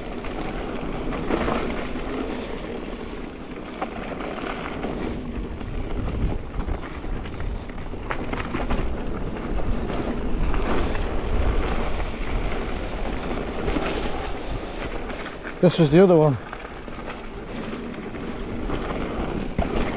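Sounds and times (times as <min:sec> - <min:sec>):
bike clicks and rattles: 0:00.0 - 0:19.9
bike tyres crunching on dirt: 0:00.0 - 0:19.9
wind rumble on microphone: 0:00.0 - 0:19.9.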